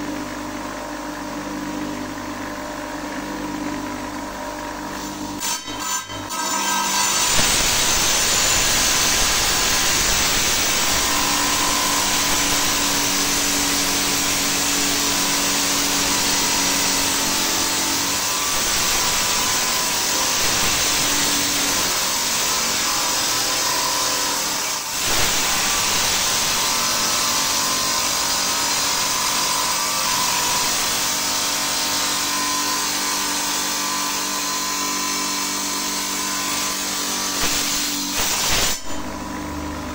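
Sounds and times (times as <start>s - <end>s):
stone-cutting saw cutting stone: 4.5s - 39.8s.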